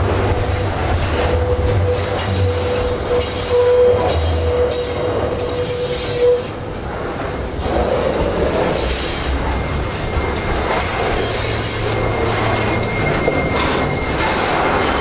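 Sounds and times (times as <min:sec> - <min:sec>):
squealing train wheels: 0:00.0 - 0:15.0
train wheels rumbling on rail: 0:00.0 - 0:15.0.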